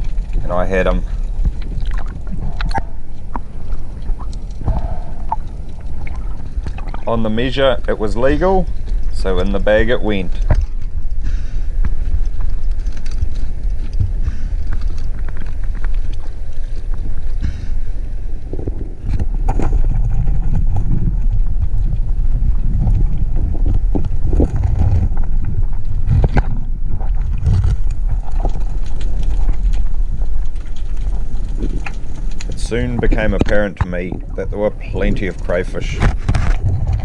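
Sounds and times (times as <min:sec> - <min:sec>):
muffled underwater sound: 0:00.0 - 0:37.0
wind and water rumble: 0:00.0 - 0:37.0.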